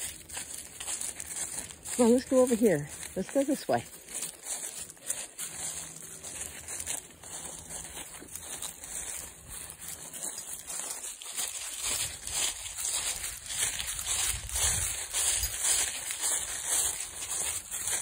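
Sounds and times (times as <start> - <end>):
footsteps crunching dry leaves: 0.0 - 18.0.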